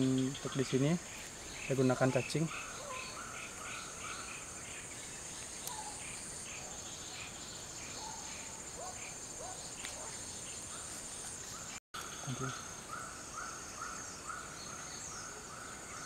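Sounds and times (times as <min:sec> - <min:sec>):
insect chirps: 0:00.0 - 0:16.0
insects droning: 0:00.0 - 0:16.0.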